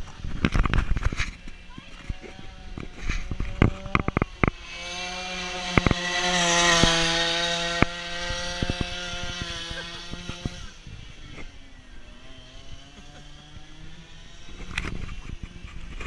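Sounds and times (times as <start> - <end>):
go-kart engine revving high: 0.0 - 16.0.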